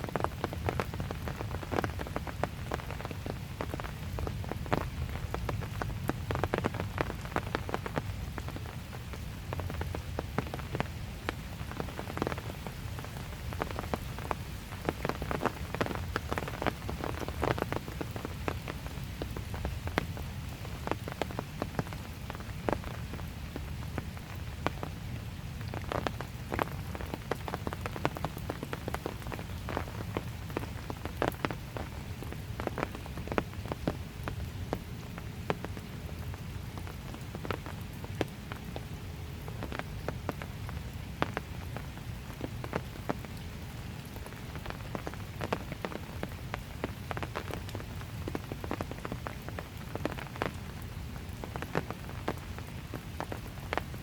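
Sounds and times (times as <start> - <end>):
raindrops ticking on hard surfaces: 0.0 - 54.0.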